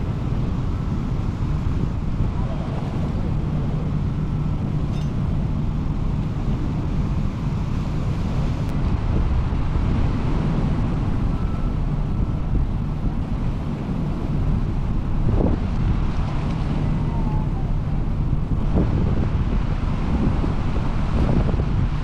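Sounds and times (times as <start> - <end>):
white water rushing through weir: 0.0 - 22.0
wind on microphone: 0.0 - 22.0.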